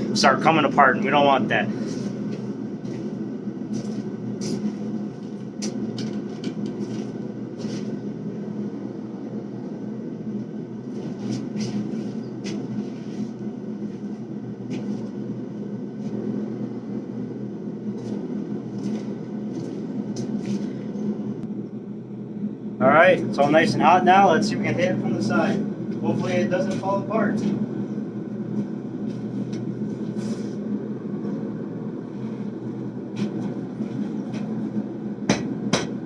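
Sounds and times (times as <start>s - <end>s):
forge running: 0.0s - 36.0s.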